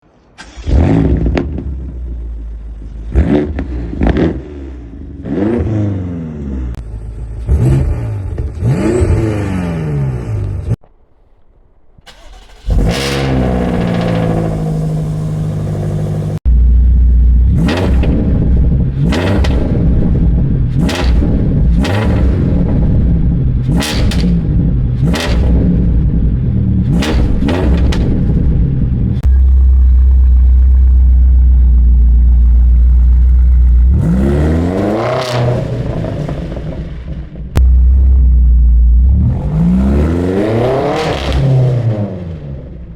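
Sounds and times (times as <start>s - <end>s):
car engine revving: 0.4s - 10.8s, 12.1s - 42.9s.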